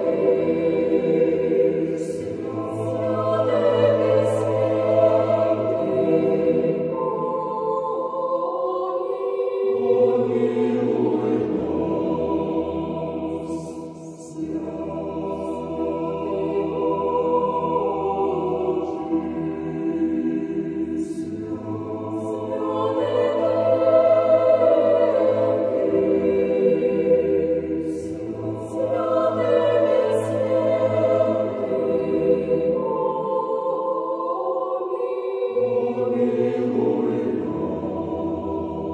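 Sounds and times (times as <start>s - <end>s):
choir chanting: 0.0s - 38.9s.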